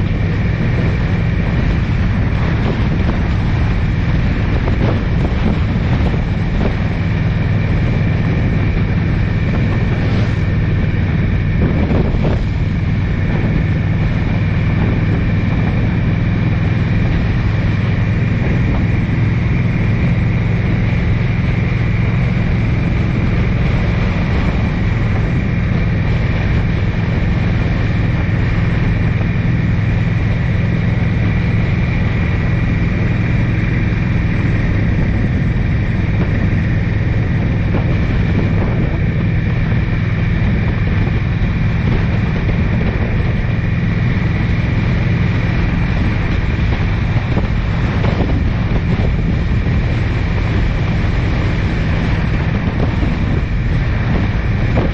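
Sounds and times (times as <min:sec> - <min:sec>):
road noise: 0:00.0 - 0:54.9
vehicle engine: 0:00.0 - 0:54.9
wind buffeting microphone: 0:00.0 - 0:54.9.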